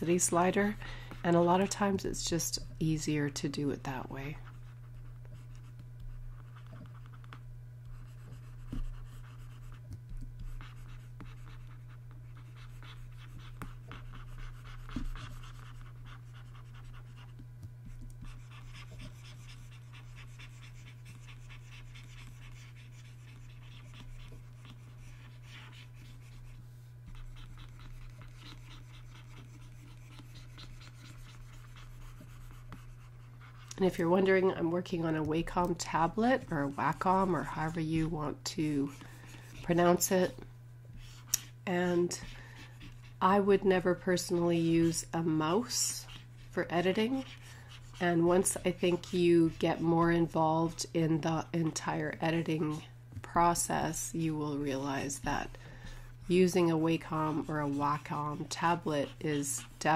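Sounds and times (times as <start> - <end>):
steady low hum: 0.0 - 59.9
stylus scratching on tablet: 0.0 - 59.9.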